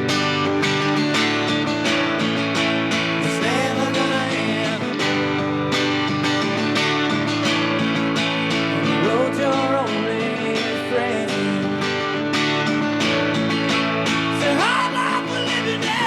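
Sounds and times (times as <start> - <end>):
strummed guitar: 0.0 - 16.0.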